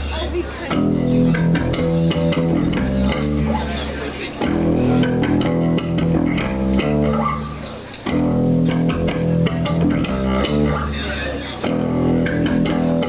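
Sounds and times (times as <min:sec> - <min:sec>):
bass guitar: 0:00.0 - 0:13.0
electric guitar: 0:00.6 - 0:13.0.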